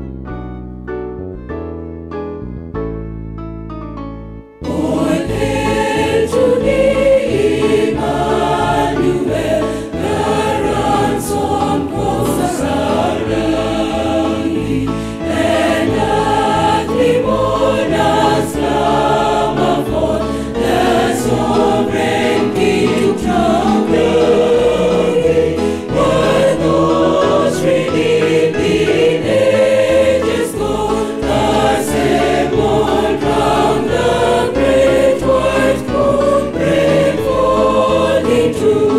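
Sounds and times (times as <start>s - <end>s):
choir singing a hymn in harmony: 4.6s - 38.9s.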